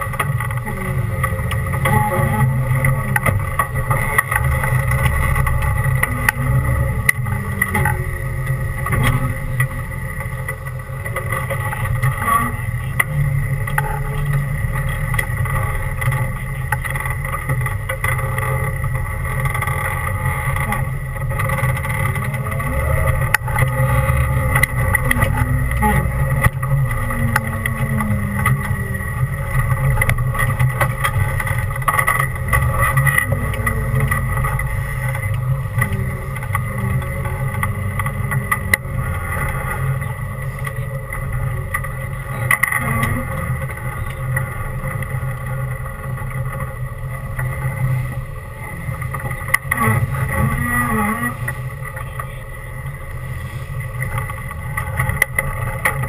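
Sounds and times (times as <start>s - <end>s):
knocks and clunks: 0.0s - 56.0s
off-road vehicle engine running: 0.0s - 56.0s.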